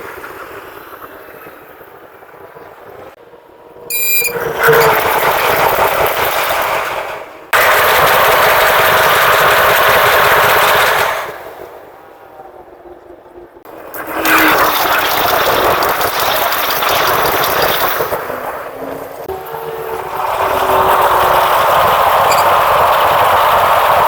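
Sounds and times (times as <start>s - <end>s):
diesel locomotive rattling: 0.0s - 24.0s.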